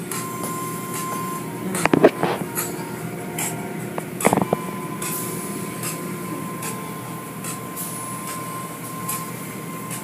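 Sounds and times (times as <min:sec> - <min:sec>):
motors humming and whining: 0:00.0 - 0:10.0.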